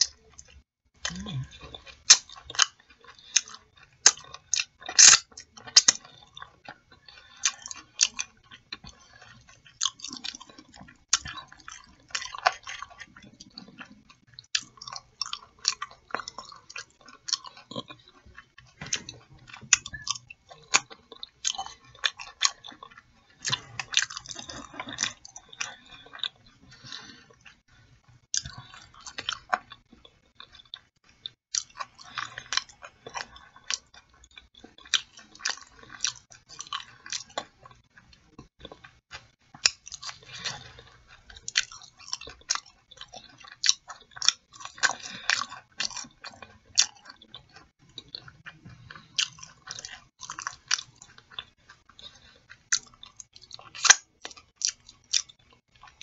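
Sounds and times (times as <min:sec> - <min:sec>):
close chewing and biting: 0:00.0 - 0:56.0
mouth clicks and crackles: 0:00.0 - 0:56.0.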